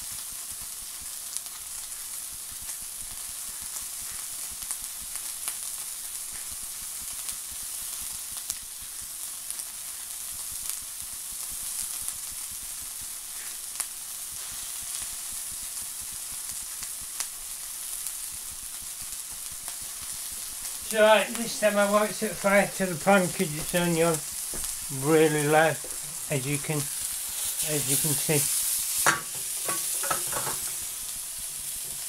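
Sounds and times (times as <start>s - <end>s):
burger patty sizzling in a pan: 0.0s - 32.0s.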